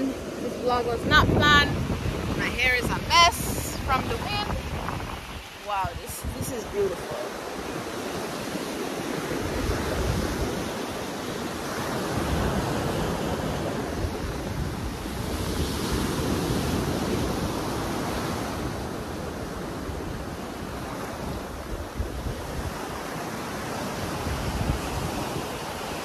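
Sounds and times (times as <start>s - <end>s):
waves washing up a beach: 0.0s - 26.0s
wind on the microphone: 0.0s - 26.0s.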